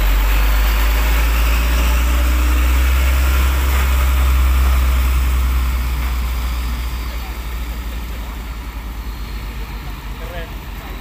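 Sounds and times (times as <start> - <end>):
truck engine driving past: 0.0 - 11.0.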